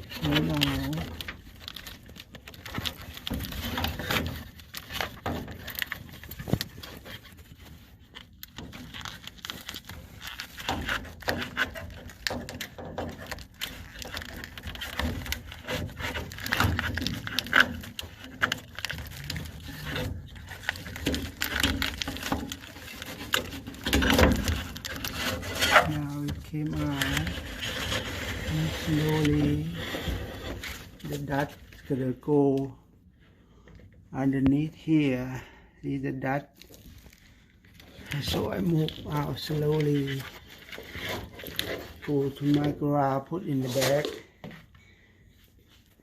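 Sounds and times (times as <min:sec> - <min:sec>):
air filter scraping and rubbing: 0:00.0 - 0:32.5, 0:36.7 - 0:44.7.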